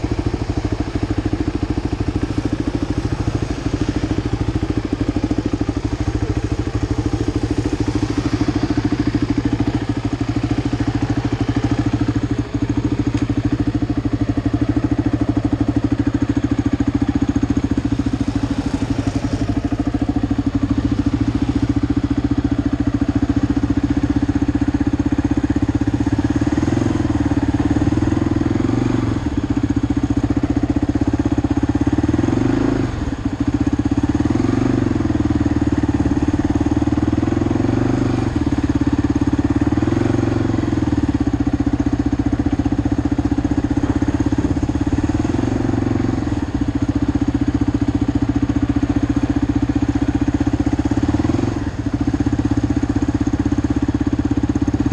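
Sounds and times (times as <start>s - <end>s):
quad engine revving: 0.0s - 22.7s, 23.3s - 54.9s.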